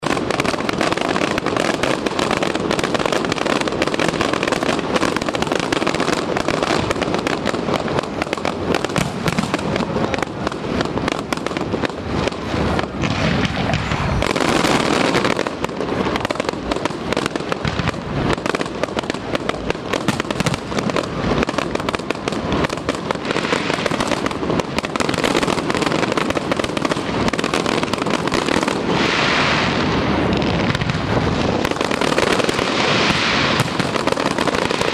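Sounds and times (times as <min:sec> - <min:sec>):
firework bangs and crackling: 0:00.0 - 0:34.9.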